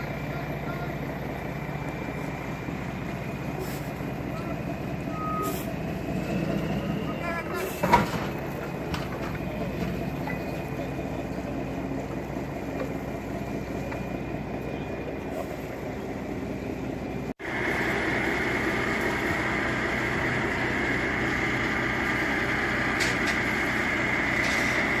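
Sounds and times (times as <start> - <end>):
heavy vehicle engine running: 0.0 - 25.0.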